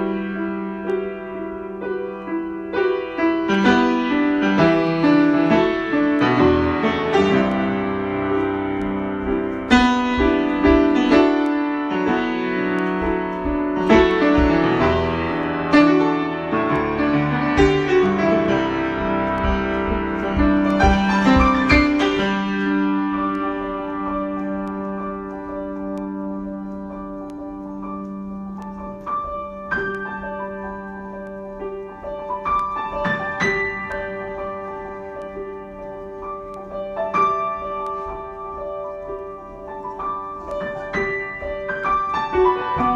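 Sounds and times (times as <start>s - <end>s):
piano chords: 0.0s - 42.9s.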